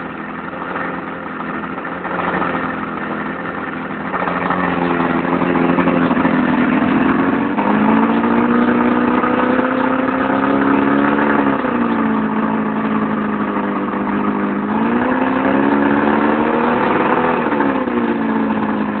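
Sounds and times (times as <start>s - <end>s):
outboard motor revving: 0.0s - 19.0s.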